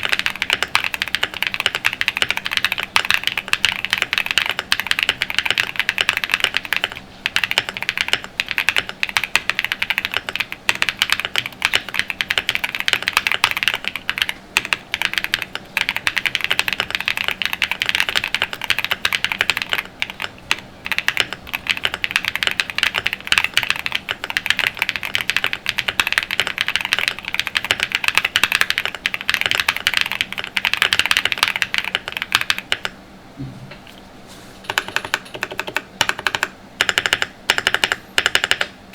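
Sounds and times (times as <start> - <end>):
fast typing on mechanical keyboard: 0.0 - 33.0, 34.7 - 38.8.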